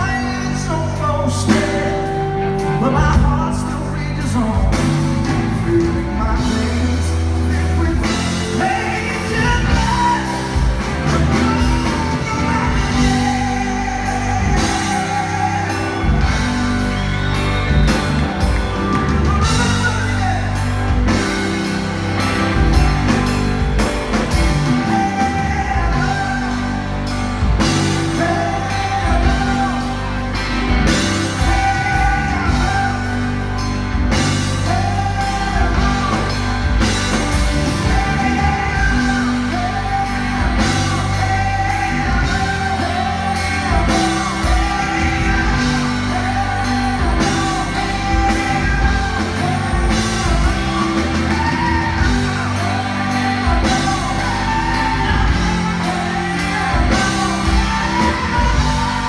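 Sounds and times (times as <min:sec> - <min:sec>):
bass guitar: 0:00.0 - 0:59.0
drums: 0:00.0 - 0:59.0
electric guitar: 0:00.0 - 0:59.0
man singing: 0:00.0 - 0:59.0.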